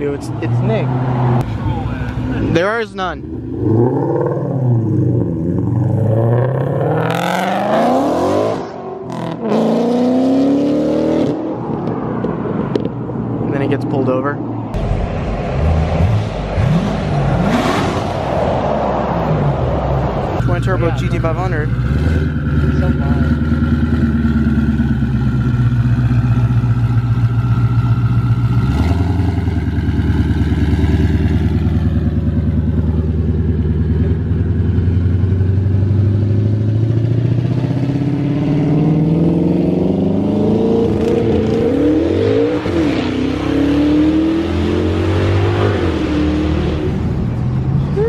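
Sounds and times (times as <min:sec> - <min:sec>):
car engine rumbling and accelerating: 0:00.0 - 0:48.0.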